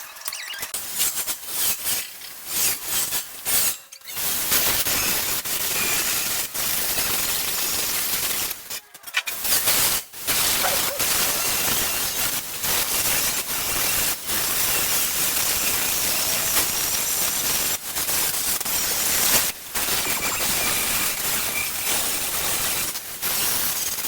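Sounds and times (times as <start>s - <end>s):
welding arc crackling on steel: 0.0s - 24.0s.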